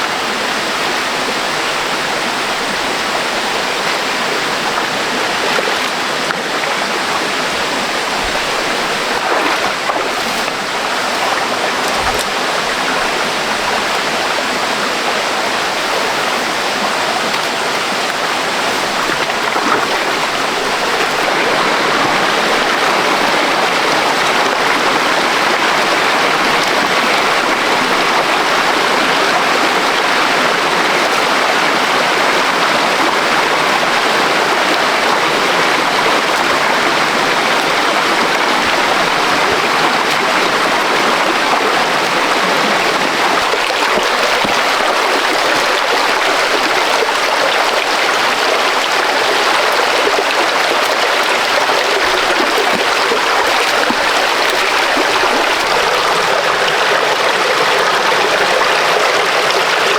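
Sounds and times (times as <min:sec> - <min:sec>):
stream water rushing over rocks: 0:00.0 - 0:59.9.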